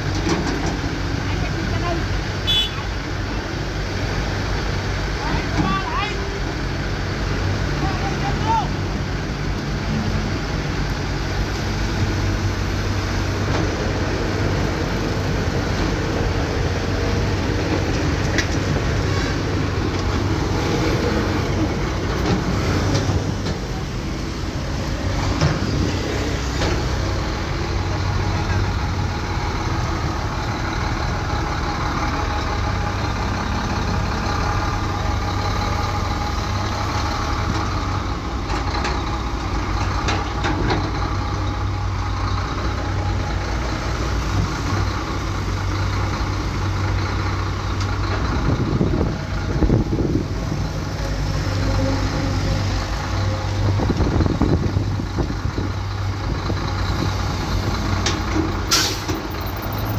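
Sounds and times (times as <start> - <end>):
diesel machinery humming: 0.0 - 59.9.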